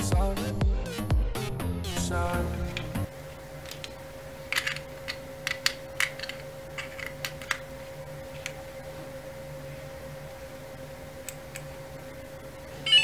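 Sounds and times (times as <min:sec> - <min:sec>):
faint electrical hum: 0:01.8 - 0:13.0.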